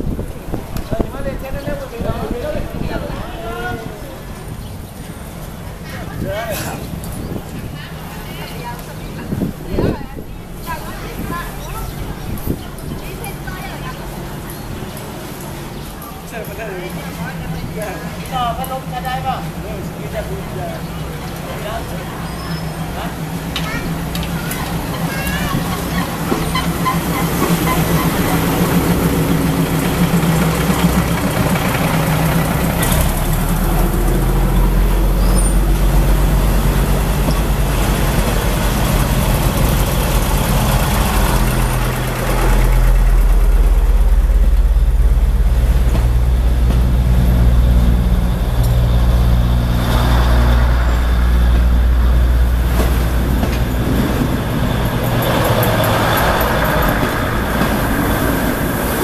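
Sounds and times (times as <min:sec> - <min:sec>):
diesel railcar engine drone: 0:00.0 - 0:59.0.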